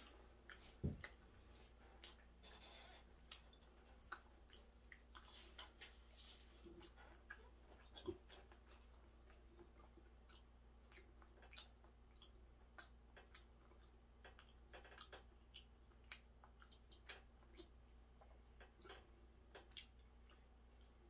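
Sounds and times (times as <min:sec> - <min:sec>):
low steady hum: 0:00.0 - 0:21.0
person chewing wetly: 0:00.0 - 0:21.0.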